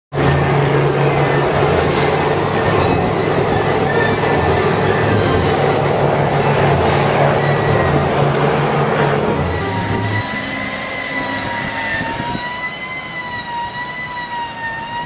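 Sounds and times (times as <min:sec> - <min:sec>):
engine equipment droning: 0:00.1 - 0:15.0
fire hose spraying: 0:01.1 - 0:14.1.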